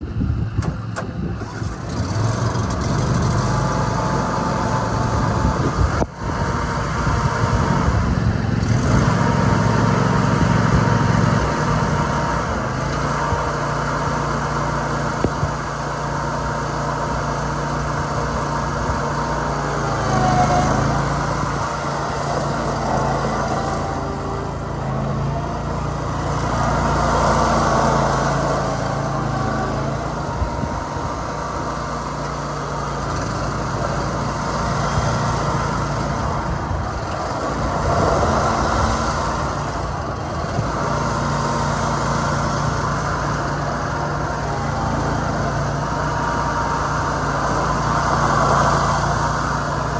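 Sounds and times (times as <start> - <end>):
riding mower engine running: 0.0 - 49.9.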